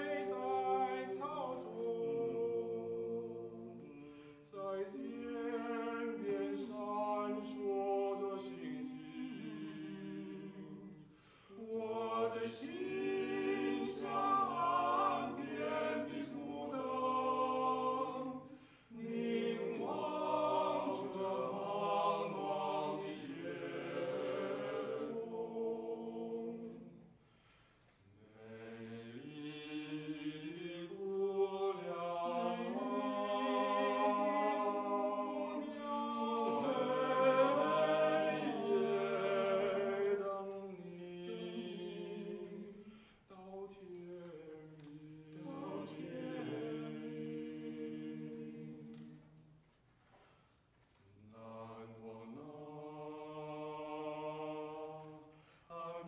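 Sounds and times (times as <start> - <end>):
male quartet singing a cappella: 0.0 - 27.1, 28.2 - 49.4, 51.2 - 56.0.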